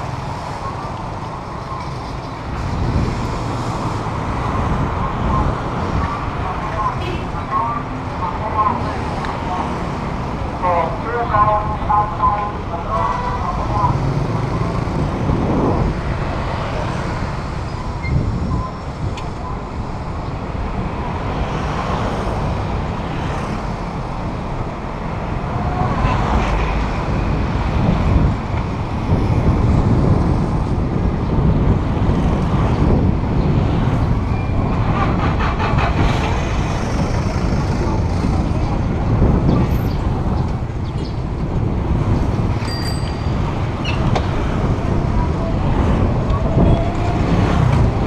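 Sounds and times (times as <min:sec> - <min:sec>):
street traffic rumble: 0:00.0 - 0:48.0.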